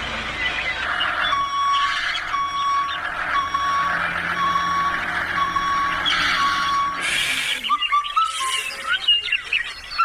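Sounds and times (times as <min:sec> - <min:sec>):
reversing alarm beeping: 0:00.0 - 0:09.1.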